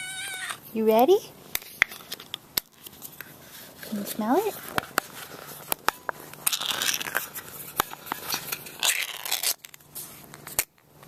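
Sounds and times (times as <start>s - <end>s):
crinkling rustling handling: 1.6s - 11.0s.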